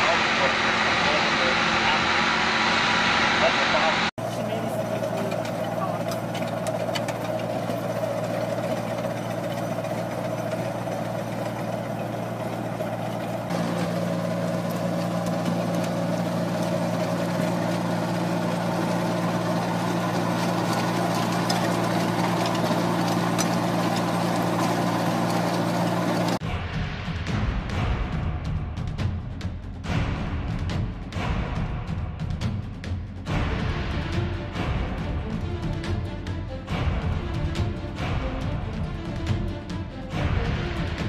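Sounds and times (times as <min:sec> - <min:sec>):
heavy machine engine running: 0:00.0 - 0:26.4, 0:33.3 - 0:41.0.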